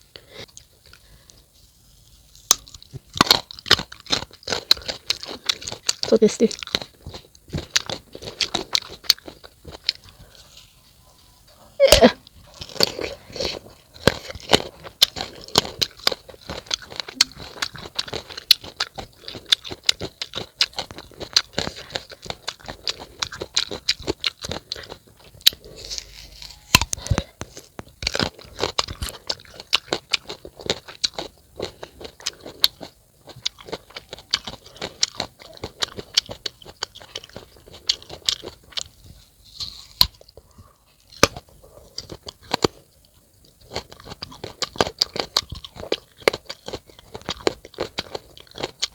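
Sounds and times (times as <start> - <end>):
crunching and chewing fruit: 0.0 - 48.9.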